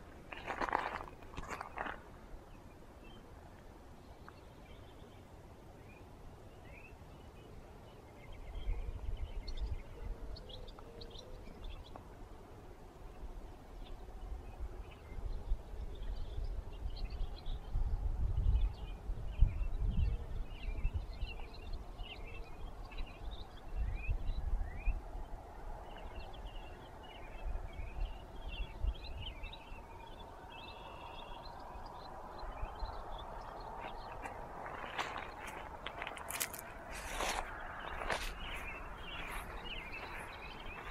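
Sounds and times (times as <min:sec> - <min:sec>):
small birds calling and singing: 0:00.0 - 0:40.9
wind rumble on microphone: 0:05.8 - 0:12.4, 0:13.0 - 0:40.9.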